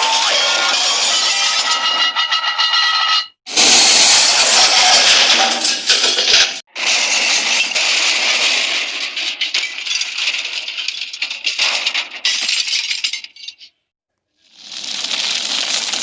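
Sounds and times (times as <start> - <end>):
cartoon crash debris clattering: 0.0 - 13.8, 14.6 - 16.0.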